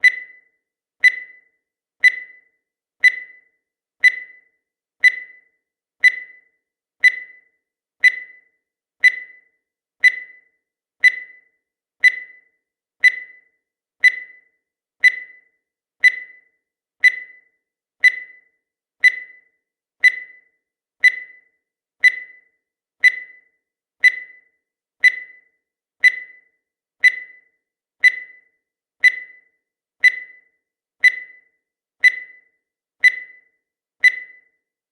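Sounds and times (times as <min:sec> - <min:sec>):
countdown timer beeps: 0:00.0 - 0:34.7.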